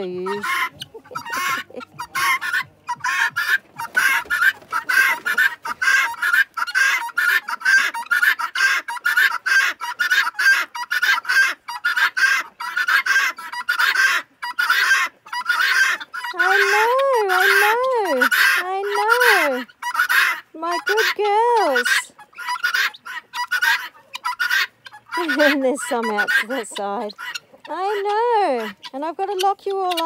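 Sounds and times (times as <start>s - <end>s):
guinea fowl calling: 0.0s - 30.0s.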